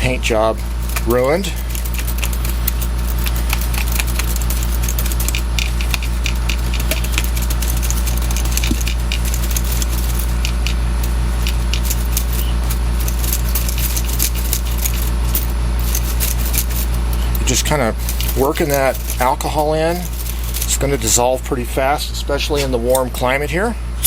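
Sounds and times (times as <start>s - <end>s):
electric fan humming: 0.0s - 24.0s
typewriter keys clattering: 0.8s - 20.9s.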